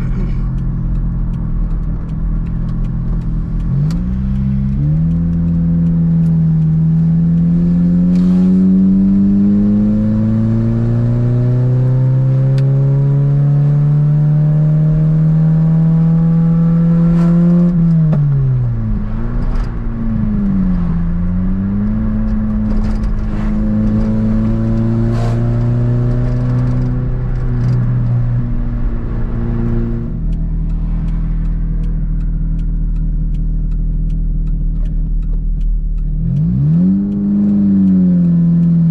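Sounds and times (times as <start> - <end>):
car engine accelerating and cruising: 0.0 - 38.9.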